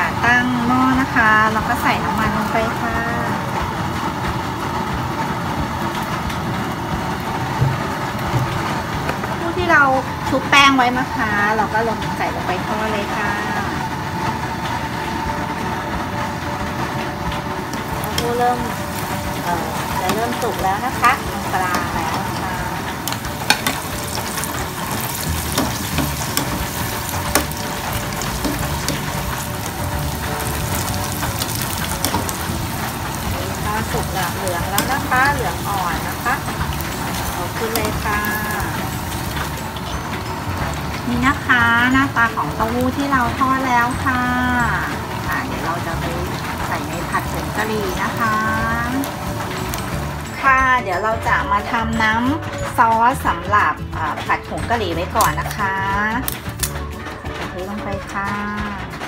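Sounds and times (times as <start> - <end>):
rumbling background noise: 0.0 - 52.2
food deep-frying in oil: 0.0 - 58.8.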